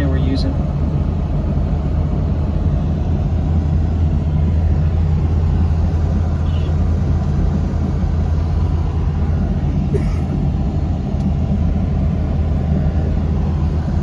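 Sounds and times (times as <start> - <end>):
jeep engine and road noise: 0.0 - 14.0.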